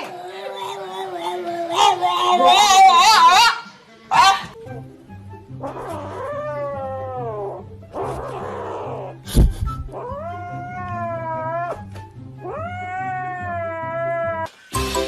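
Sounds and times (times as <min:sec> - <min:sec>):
cat yowling: 0:00.0 - 0:04.6, 0:05.6 - 0:09.2, 0:10.0 - 0:14.5
background music: 0:00.0 - 0:15.0.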